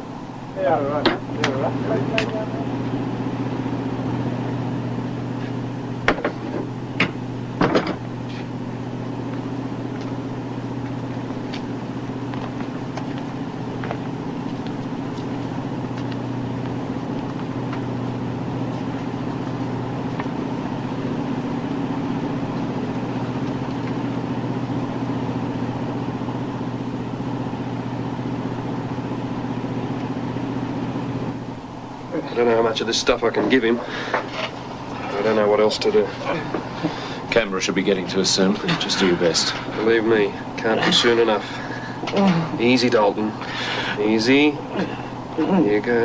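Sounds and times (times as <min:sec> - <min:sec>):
boat engines droning: 0:00.0 - 0:46.0.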